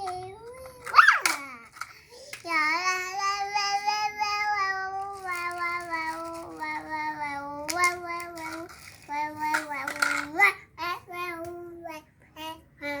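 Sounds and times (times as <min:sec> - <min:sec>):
child singing: 0:00.0 - 0:01.7, 0:02.4 - 0:13.0.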